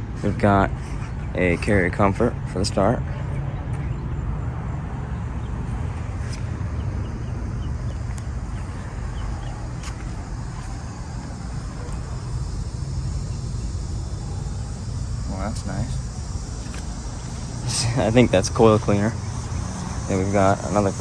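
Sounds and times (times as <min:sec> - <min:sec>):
air conditioner condenser humming: 0:00.0 - 0:21.0.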